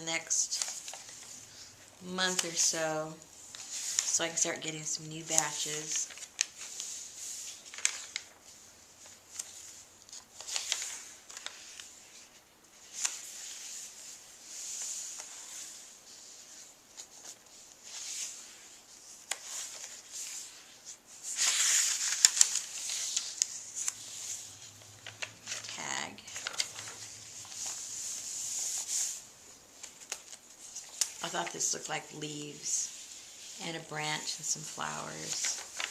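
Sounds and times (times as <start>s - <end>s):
paper rustling: 0.2s - 35.9s.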